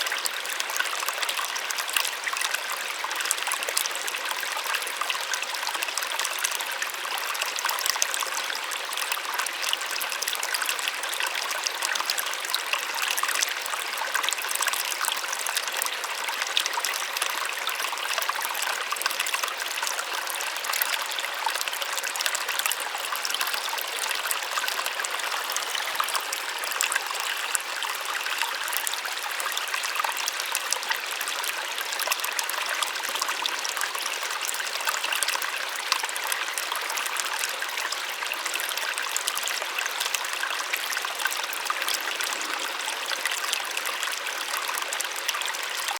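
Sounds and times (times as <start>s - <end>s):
small waterfall splashing: 0.0s - 45.9s.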